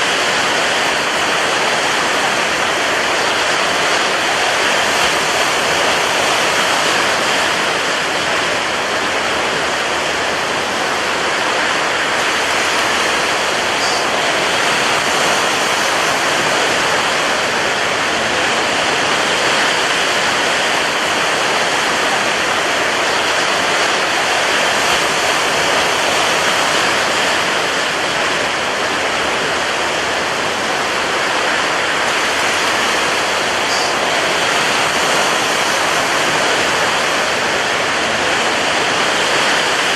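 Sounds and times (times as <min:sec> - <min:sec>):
rough sea surf: 0:00.0 - 0:39.9
strong wind: 0:00.0 - 0:39.9.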